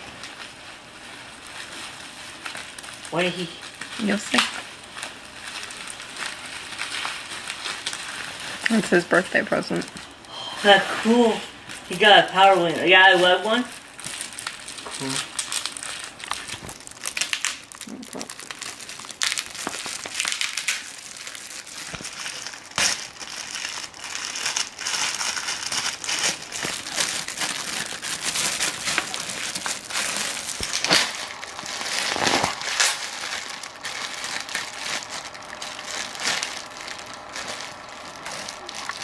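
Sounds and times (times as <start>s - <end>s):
packaging crinkling: 0.0s - 39.0s.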